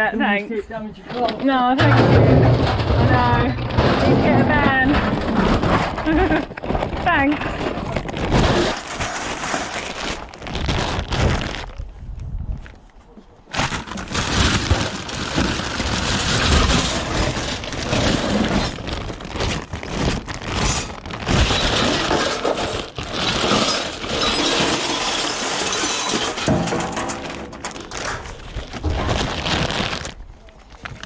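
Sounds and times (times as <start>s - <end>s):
scrap metal clattering and crashing: 1.2s - 10.4s, 13.6s - 30.1s.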